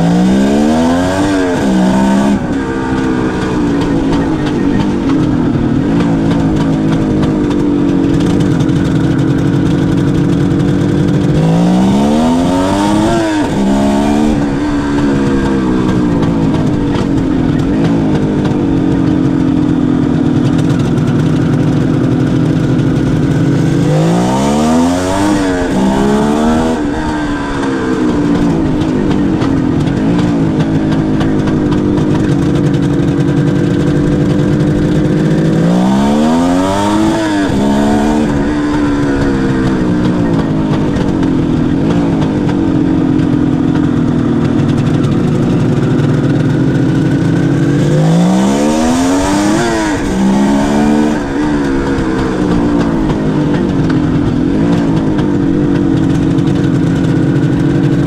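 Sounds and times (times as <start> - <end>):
two-stroke engine running: 0.0 - 58.0.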